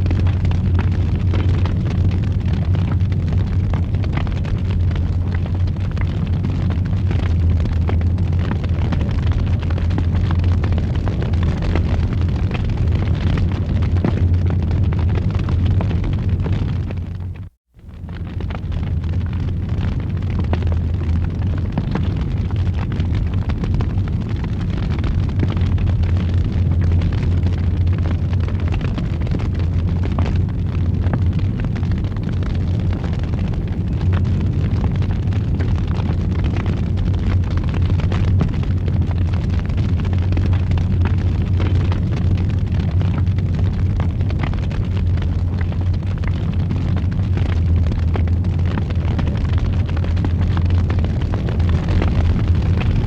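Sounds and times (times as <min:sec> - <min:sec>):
crackles and pops of fire: 0:00.0 - 0:53.0
wood fire burning: 0:00.0 - 0:53.0.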